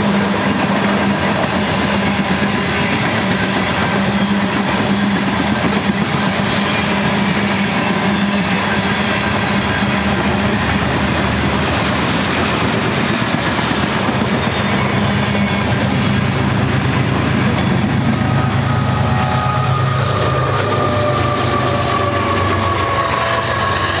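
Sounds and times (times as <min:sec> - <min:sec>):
diesel locomotive engine: 0:00.0 - 0:24.0
train wheels rumbling on rails: 0:00.0 - 0:24.0.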